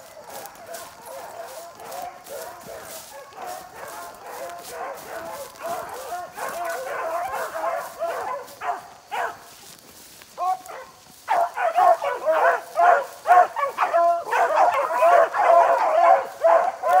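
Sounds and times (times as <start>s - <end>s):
hounds baying: 0.0s - 9.6s, 10.3s - 17.0s.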